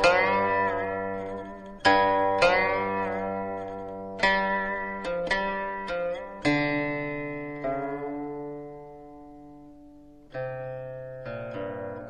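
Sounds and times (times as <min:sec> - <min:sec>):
plucked string notes: 0:00.0 - 0:12.0.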